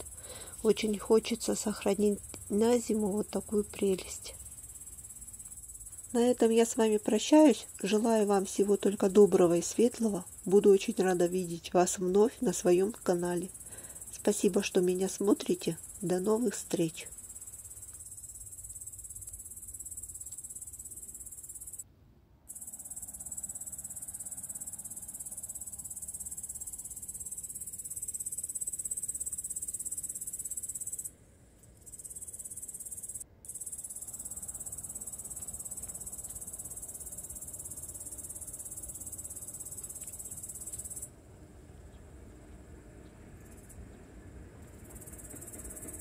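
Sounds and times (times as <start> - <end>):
insects chirring: 0.0 - 21.8, 22.5 - 43.9, 44.6 - 46.0.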